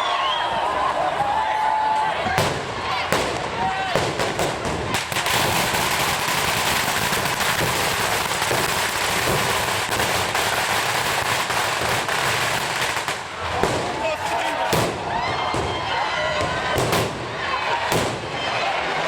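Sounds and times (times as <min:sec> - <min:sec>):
firecrackers crackling: 0:02.1 - 0:19.0.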